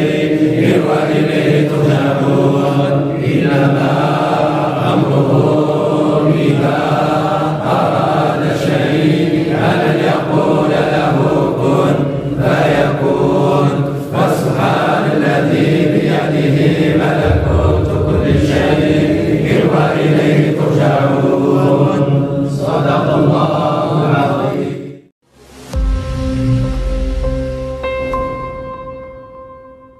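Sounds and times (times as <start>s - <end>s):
men chanting in unison: 0.0s - 25.1s.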